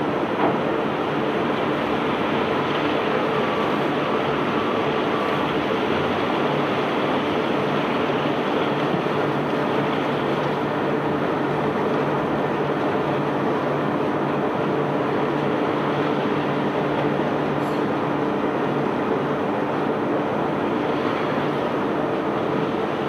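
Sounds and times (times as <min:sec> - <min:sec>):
barge machinery rumble and hiss: 0:00.0 - 0:23.0.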